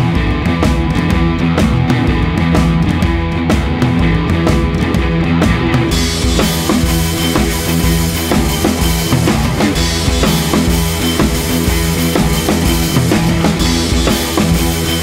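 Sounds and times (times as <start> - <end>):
drums steady beat: 0.0 - 15.0.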